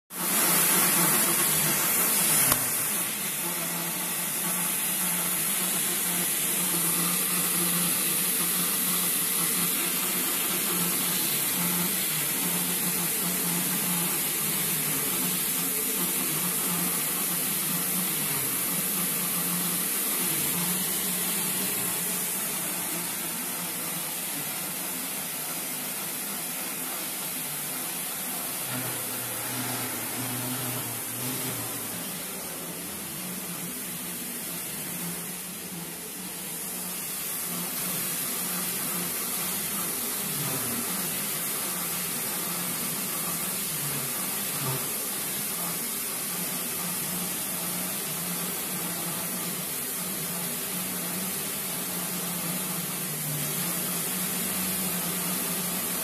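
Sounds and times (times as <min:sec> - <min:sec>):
machine hiss: 0:00.1 - 0:56.0.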